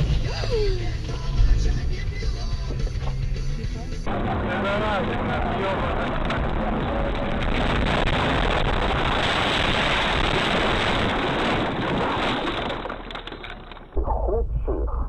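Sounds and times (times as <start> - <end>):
car road and wind noise: 0.0 - 13.8.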